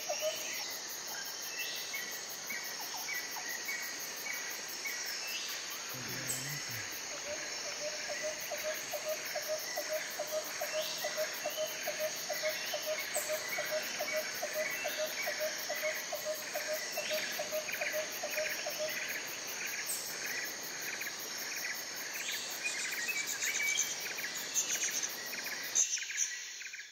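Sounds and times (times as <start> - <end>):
insects chirping and trilling: 0.0 - 26.9
low repeated insect chirp: 0.0 - 26.9.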